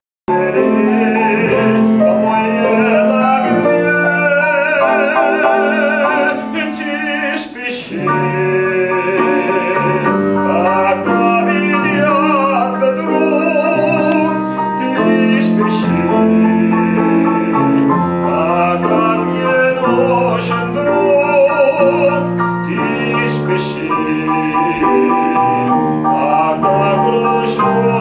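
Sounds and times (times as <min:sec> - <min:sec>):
operatic tenor singing: 0:00.3 - 0:28.0
piano accompaniment: 0:00.3 - 0:28.0.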